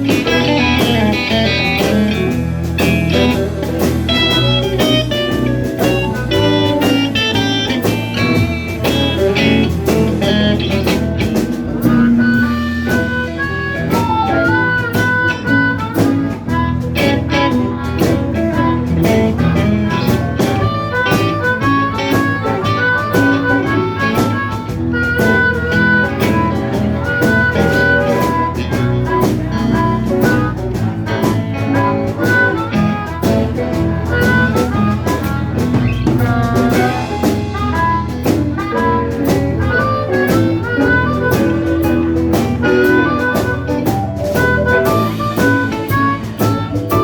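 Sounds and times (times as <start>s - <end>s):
bass: 0.0s - 47.0s
drum kit steady beat: 0.0s - 47.0s
lead melody line: 0.0s - 47.0s.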